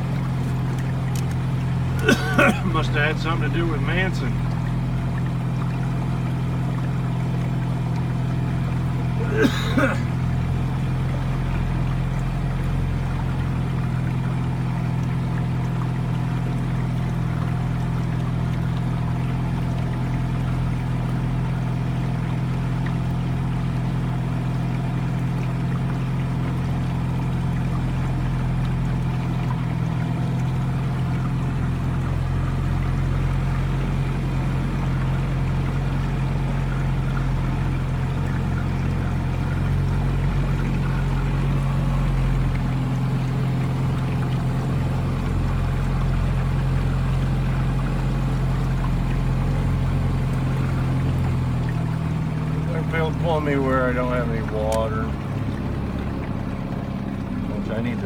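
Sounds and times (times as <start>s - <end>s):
outboard motor droning: 0.0s - 58.0s
water rushing along hull: 0.0s - 58.0s.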